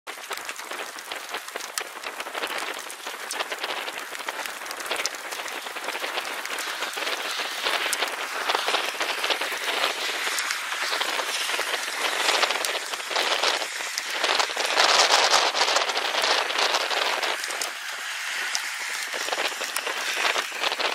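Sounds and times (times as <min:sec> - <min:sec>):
steady rain falling: 0:00.1 - 0:20.9.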